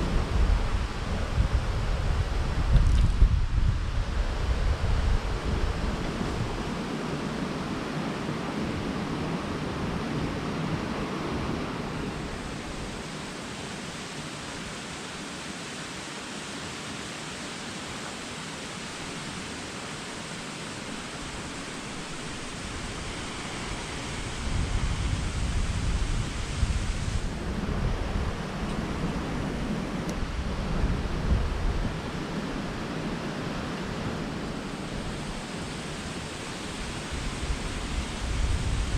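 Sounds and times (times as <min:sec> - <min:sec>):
wind on microphone rumble: 0:00.0 - 0:13.3, 0:20.8 - 0:38.9
waterfall rushing: 0:03.7 - 0:38.9.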